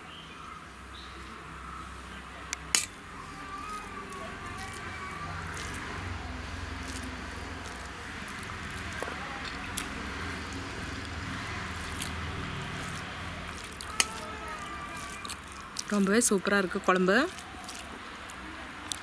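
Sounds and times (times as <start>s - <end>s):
fingers squishing rice: 2.5s - 19.0s.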